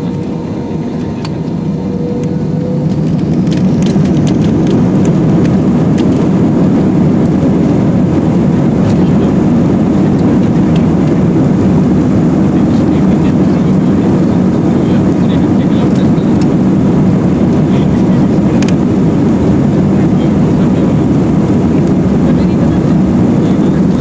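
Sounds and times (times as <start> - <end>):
jet engines roaring: 0.0 - 24.0
runway rumble: 0.0 - 24.0.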